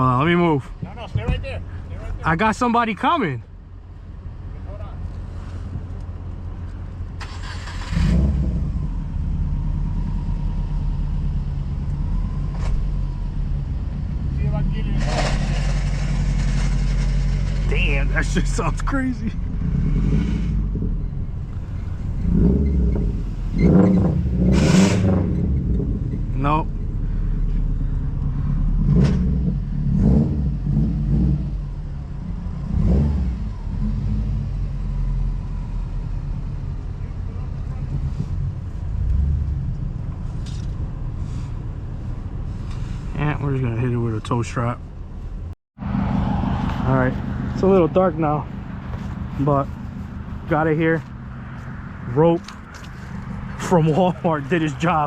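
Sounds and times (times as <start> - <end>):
car engine running: 0.0 - 34.8, 35.4 - 55.0.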